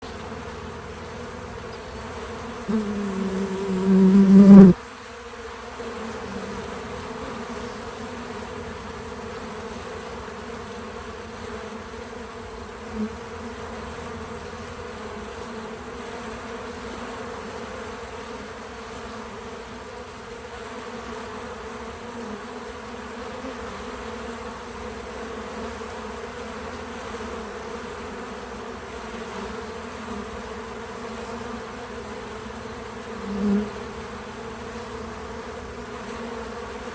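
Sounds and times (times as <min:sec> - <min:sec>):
bees buzzing: 0:00.0 - 0:36.9
close bee buzzing: 0:00.0 - 0:36.9.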